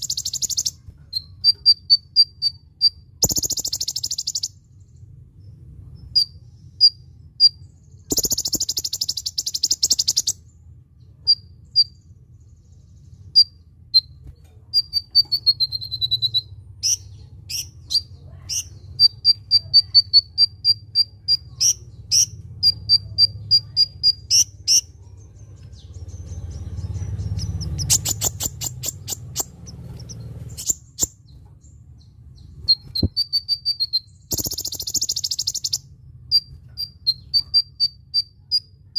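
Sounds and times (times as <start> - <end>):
low steady hum: 0.0 - 38.9
small bird singing chips and trills: 0.0 - 38.9.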